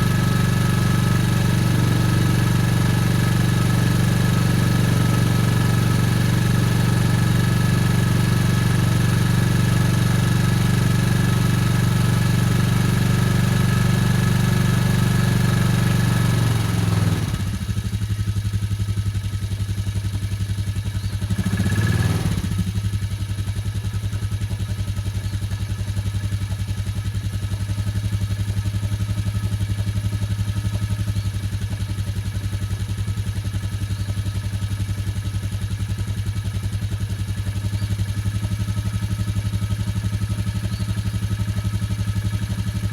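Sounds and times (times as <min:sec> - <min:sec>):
cold engine idling rough: 0:00.0 - 0:42.9.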